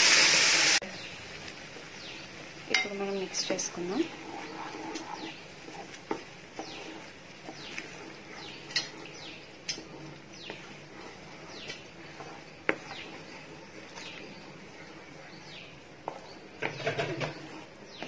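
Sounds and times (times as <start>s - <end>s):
spatula stirring paste in a pan: 1.1s - 18.0s.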